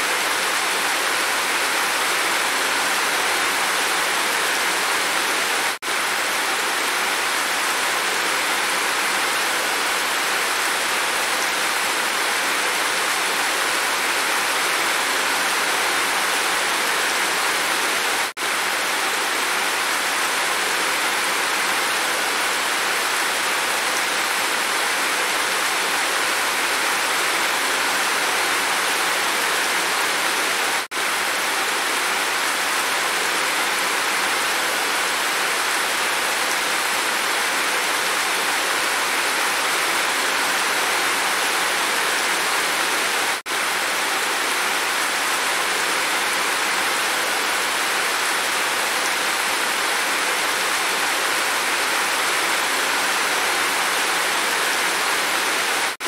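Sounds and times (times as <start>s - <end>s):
rain running off a roof: 0.0s - 56.0s.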